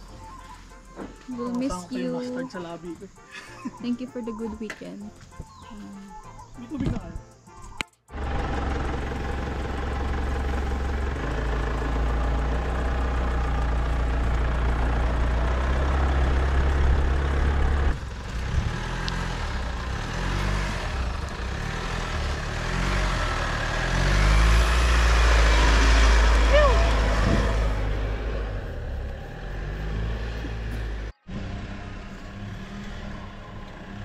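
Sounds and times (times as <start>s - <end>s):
vehicle engine running: 0.0s - 3.1s, 8.1s - 34.0s.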